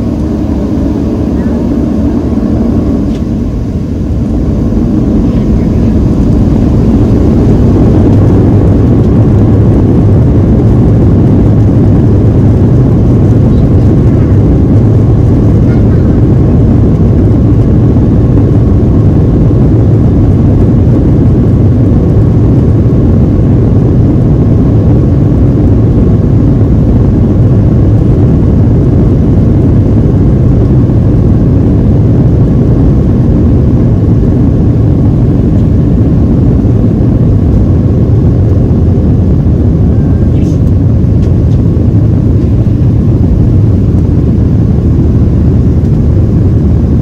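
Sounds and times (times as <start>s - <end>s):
airliner cabin rumble: 0.0s - 47.0s
faint steady whine: 0.0s - 47.0s.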